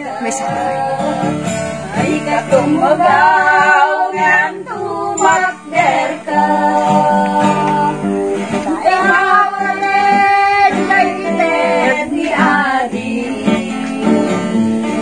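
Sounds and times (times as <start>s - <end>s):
group singing a carol: 0.0s - 15.0s
strummed acoustic guitar: 0.0s - 15.0s.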